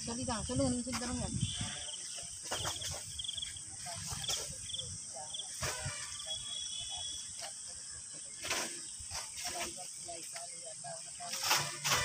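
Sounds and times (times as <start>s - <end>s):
crickets chirping: 0.0s - 12.0s
insect drone: 0.0s - 12.0s.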